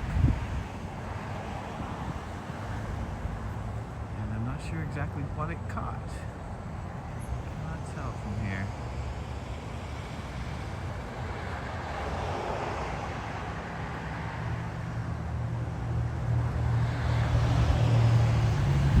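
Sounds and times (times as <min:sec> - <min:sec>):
traffic engine rumble and road noise: 0:00.0 - 0:19.0.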